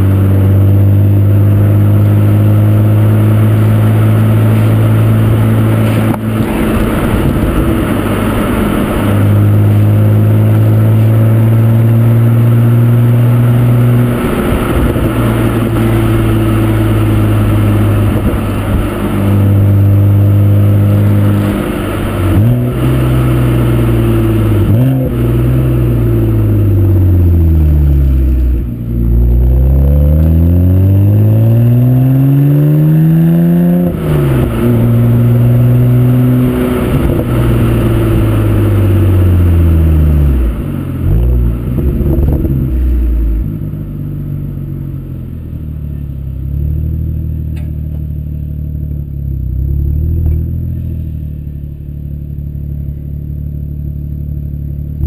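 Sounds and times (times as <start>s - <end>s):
car exhaust while driving: 0.0s - 55.0s.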